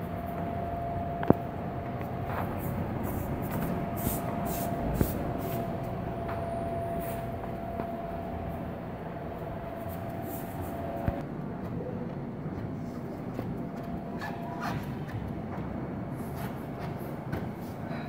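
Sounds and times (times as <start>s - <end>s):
mechanical rumble: 0.0s - 17.6s
constant hum: 0.0s - 18.0s.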